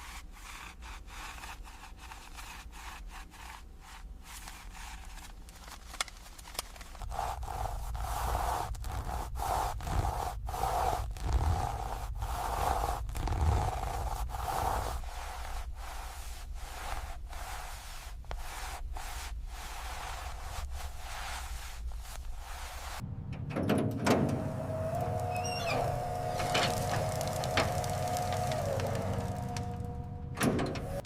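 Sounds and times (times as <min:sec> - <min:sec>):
repeated scraping strokes: 0:00.0 - 0:23.0, 0:24.4 - 0:30.2.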